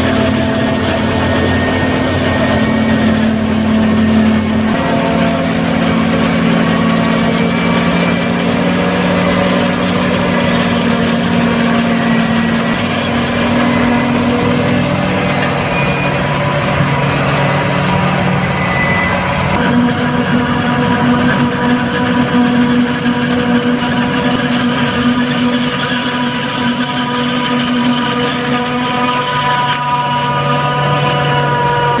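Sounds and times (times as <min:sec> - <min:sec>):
forage harvester chopping corn: 0:00.0 - 0:32.0
tractor engine: 0:00.0 - 0:32.0.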